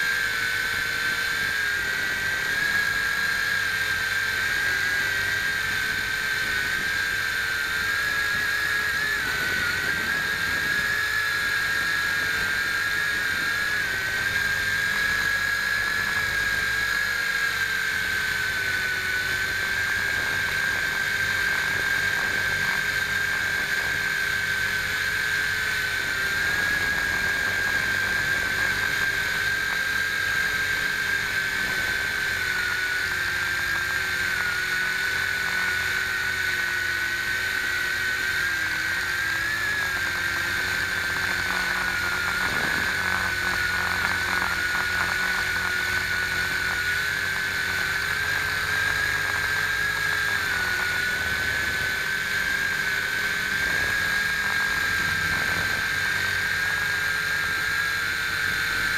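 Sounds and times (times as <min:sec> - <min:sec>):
quadcopter motors whining: 0:00.0 - 0:58.9.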